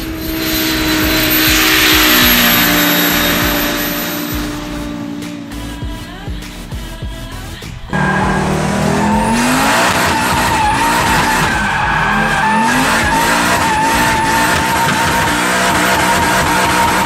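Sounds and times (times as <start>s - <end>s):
tyres squealing: 0.0s - 5.2s, 7.4s - 17.0s
car engine revving: 0.0s - 17.0s
spinning tyres hissing: 0.0s - 17.0s.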